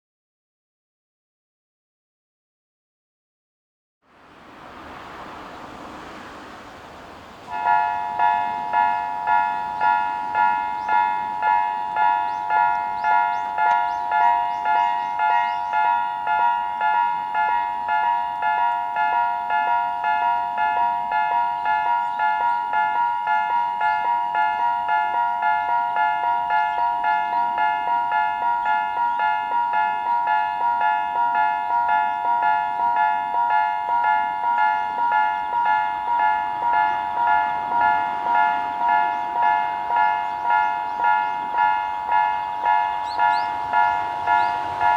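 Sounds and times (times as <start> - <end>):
level crossing alarm dings: 7.5 - 44.9.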